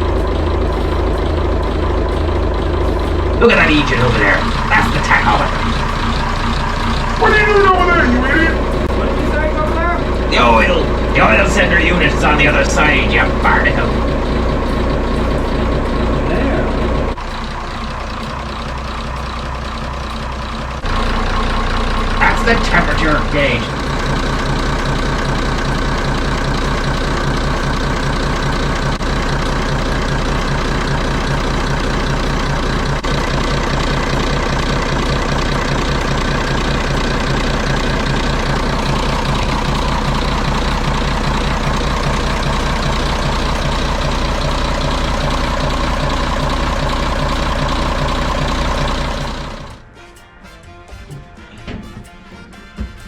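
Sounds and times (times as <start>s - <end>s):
boat engine idling: 0.0s - 49.9s.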